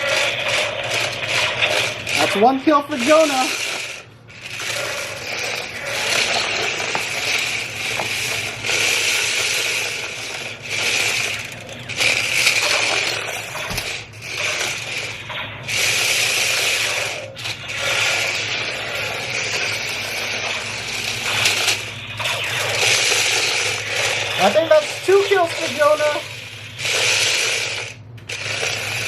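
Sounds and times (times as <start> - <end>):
toy gearmotors whirring: 0.0 - 29.0.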